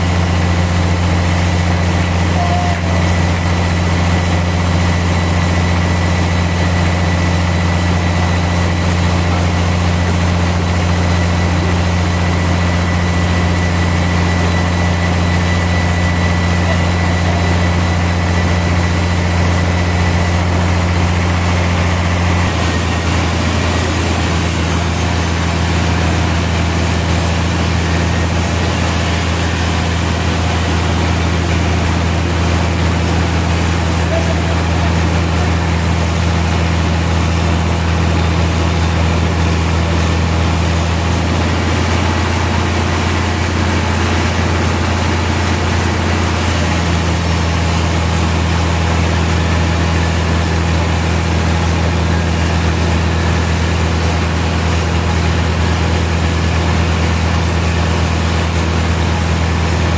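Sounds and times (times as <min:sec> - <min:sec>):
thin high whine: 0:00.0 - 0:48.8
sawmill machinery drone: 0:00.0 - 0:59.9.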